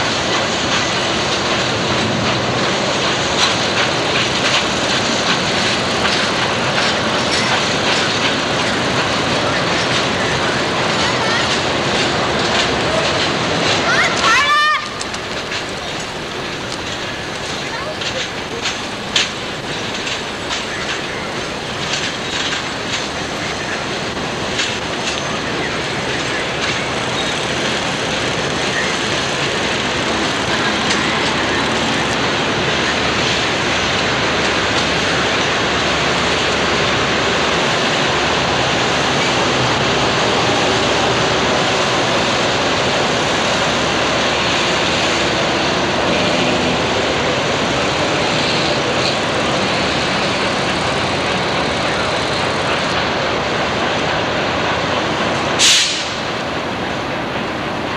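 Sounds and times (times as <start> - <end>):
train cars rolling: 0.0 - 57.9
wheels clicking over rail joints: 0.0 - 57.9.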